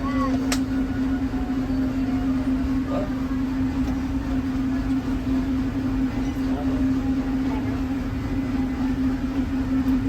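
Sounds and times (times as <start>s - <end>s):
train hum and rumble: 0.0s - 10.0s.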